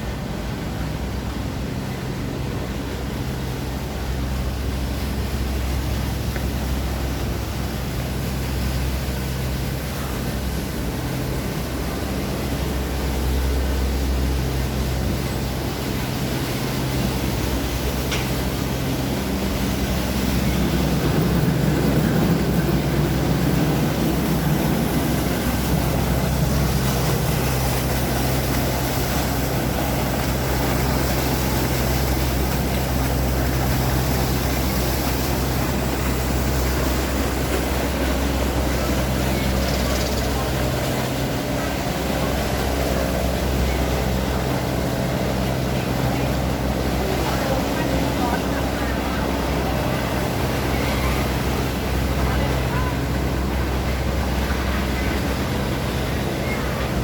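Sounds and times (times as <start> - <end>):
boat engine running: 0.0 - 57.0
water rushing: 0.0 - 57.0
wind: 0.0 - 57.0.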